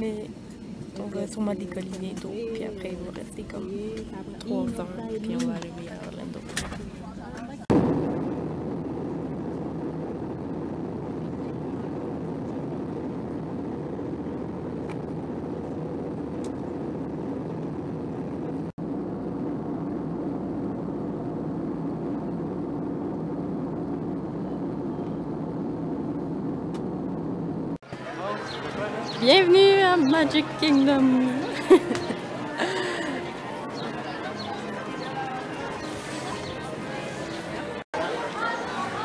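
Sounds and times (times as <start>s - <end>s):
jet airliner cabin noise: 0.0s - 39.0s.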